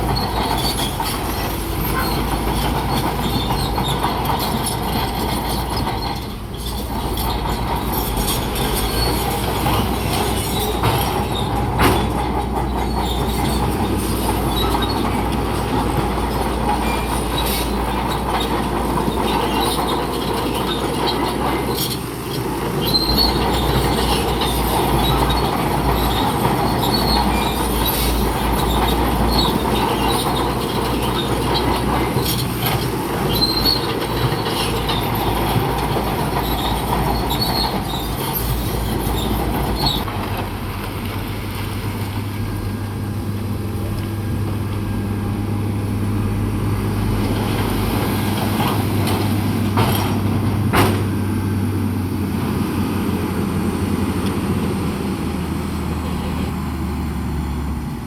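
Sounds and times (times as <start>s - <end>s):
diesel engine under load: 0.0s - 58.0s
steel tracks clanking: 0.0s - 58.0s
track squeaks: 0.0s - 58.0s.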